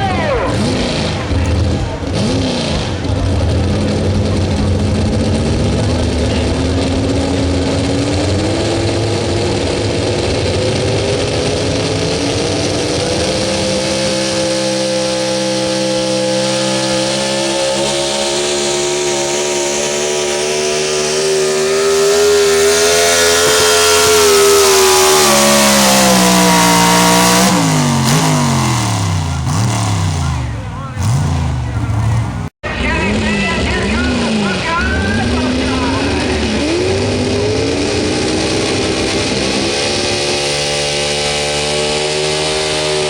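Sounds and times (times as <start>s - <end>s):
truck engine at full throttle: 0.0s - 43.0s.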